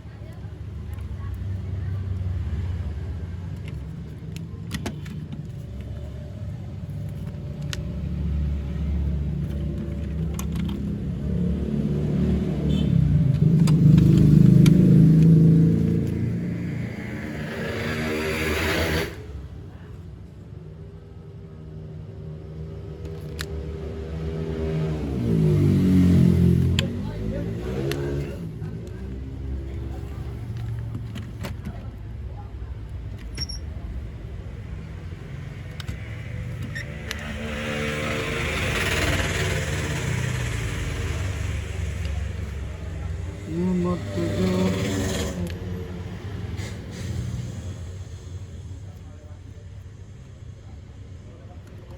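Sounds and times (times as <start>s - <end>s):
vehicle engine rumble: 0.0s - 51.9s.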